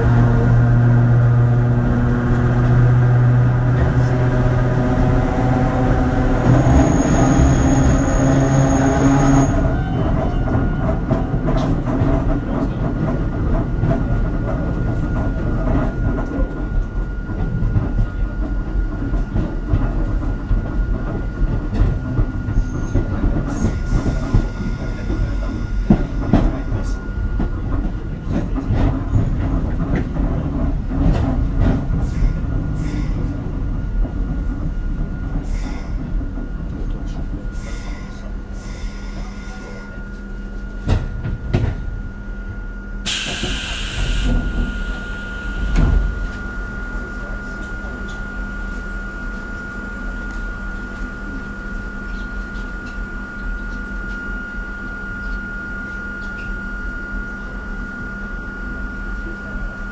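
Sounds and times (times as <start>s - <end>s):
train wheels rumbling: 0.0s - 55.5s.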